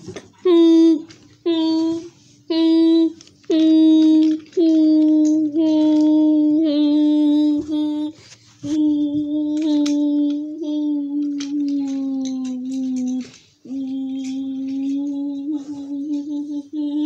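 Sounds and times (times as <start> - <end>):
child humming: 0.0 - 17.0.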